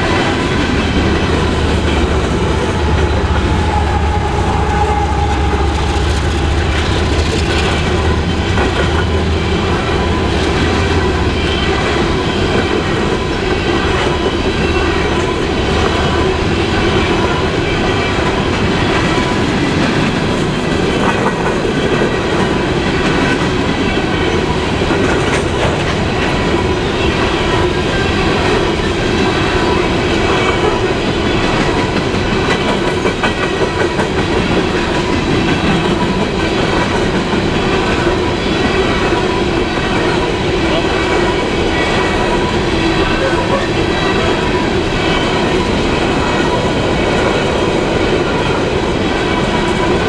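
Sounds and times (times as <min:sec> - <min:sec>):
train wheels clickety-clack: 0:00.0 - 0:50.0.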